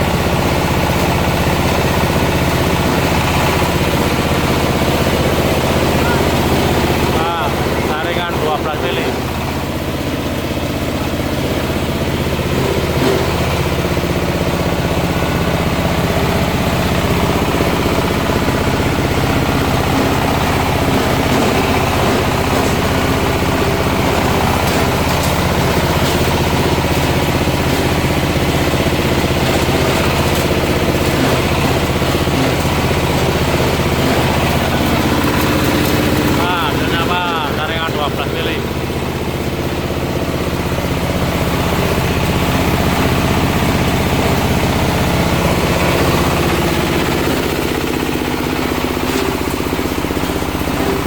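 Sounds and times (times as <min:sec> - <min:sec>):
grinding machine humming: 0:00.0 - 0:51.0.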